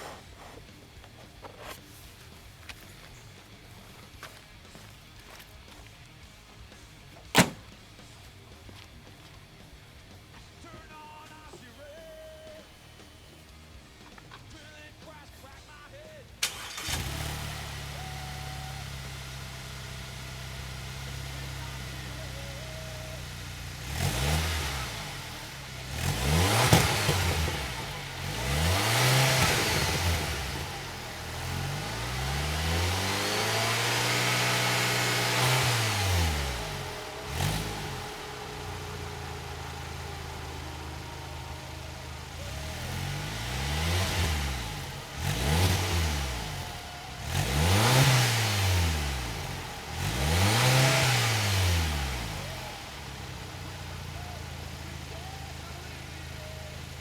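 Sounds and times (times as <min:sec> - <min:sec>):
car engine revving: 0:00.0 - 0:15.2, 0:16.4 - 0:57.0.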